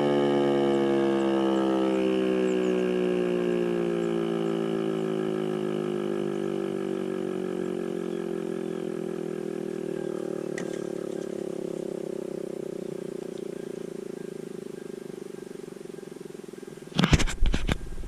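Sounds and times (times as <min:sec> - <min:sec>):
warning siren winding down: 0:00.0 - 0:16.9.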